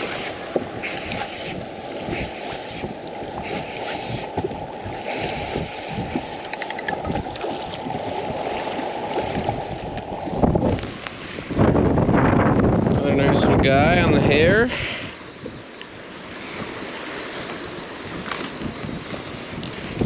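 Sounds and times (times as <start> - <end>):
water lapping against boat hull: 0.0 - 20.0
wind buffeting microphone: 0.0 - 20.0.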